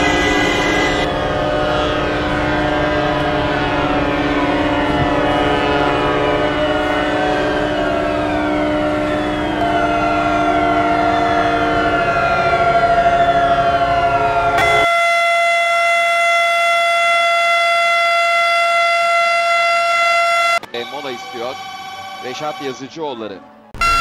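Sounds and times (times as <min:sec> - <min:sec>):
held horns: 0:00.0 - 0:24.0
sirens wailing: 0:00.0 - 0:24.0.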